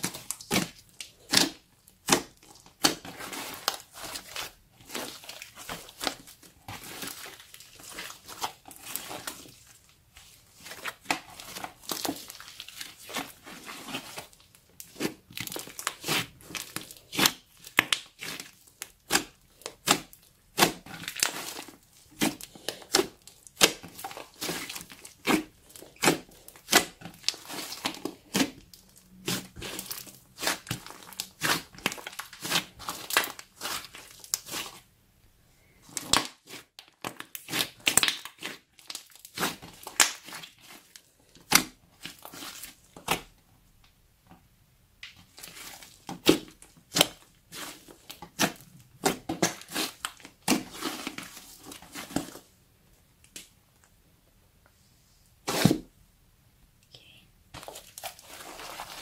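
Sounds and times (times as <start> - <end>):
slime squelching and popping: 0.0 - 34.8, 35.8 - 43.4, 45.0 - 52.5.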